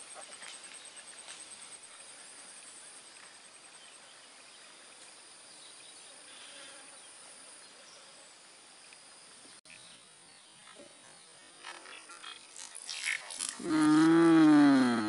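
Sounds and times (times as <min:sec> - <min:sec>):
insects droning: 0:00.0 - 0:15.0
rapid pulsing insect trill: 0:00.0 - 0:15.0.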